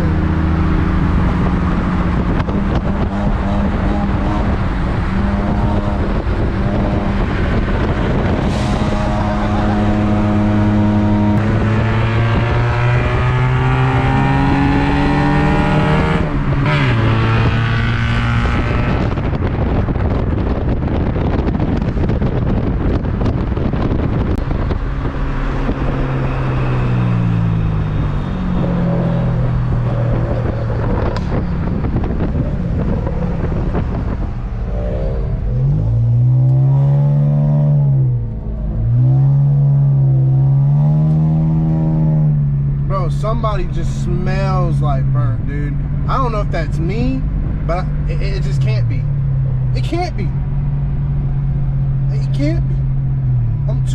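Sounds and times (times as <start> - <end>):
car engine accelerating hard: 0.0 - 53.9.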